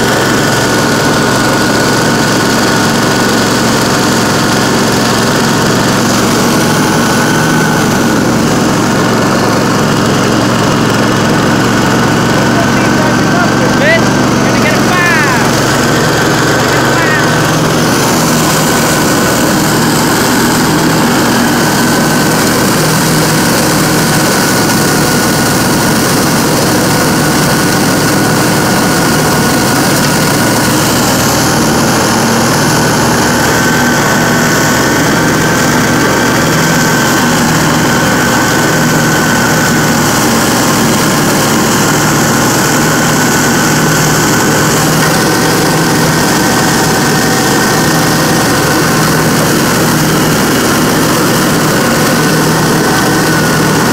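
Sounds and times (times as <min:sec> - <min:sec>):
riding mower chopping leaves: 0:00.0 - 0:53.9.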